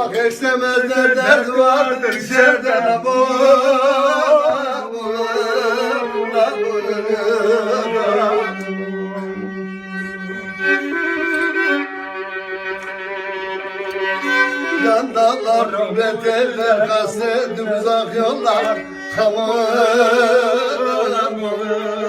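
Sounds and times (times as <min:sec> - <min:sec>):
man singing with vibrato: 0:00.0 - 0:11.9, 0:14.1 - 0:22.0.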